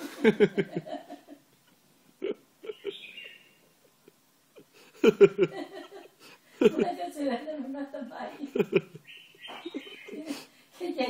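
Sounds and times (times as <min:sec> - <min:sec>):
woman laughing: 0:00.0 - 0:01.4, 0:02.2 - 0:07.3, 0:08.1 - 0:10.5.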